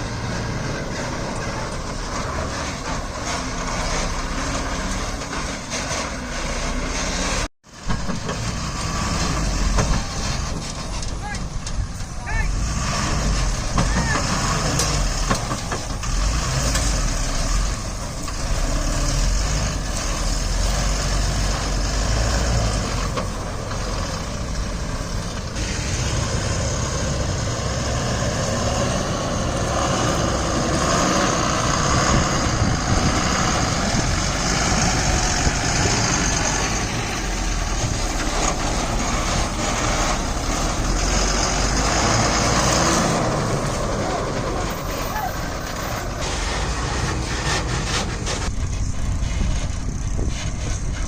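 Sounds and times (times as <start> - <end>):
diesel engine rumbling: 0.0 - 51.0.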